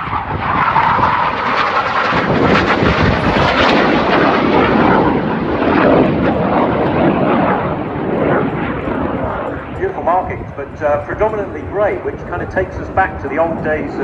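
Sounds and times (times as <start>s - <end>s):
aircraft engine: 0.0s - 14.0s.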